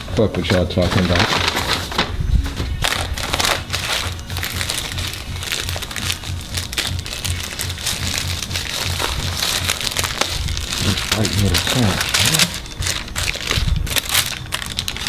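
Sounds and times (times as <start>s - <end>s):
food packaging crinkling: 0.5s - 15.0s
background music with bass beat: 2.2s - 15.0s.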